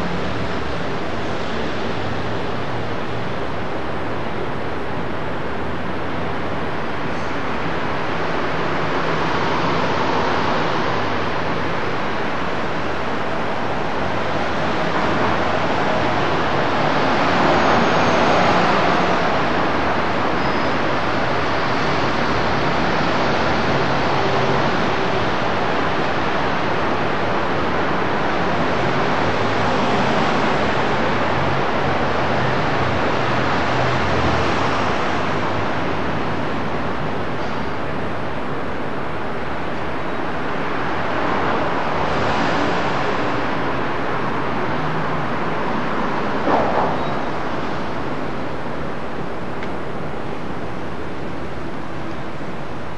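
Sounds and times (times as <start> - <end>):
city street traffic: 0.0 - 52.9.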